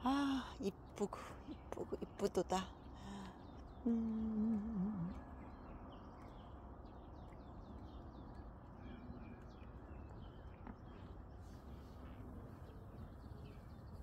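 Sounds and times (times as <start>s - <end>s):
small birds chirping: 0.0s - 14.0s
steady low background noise: 0.0s - 14.0s.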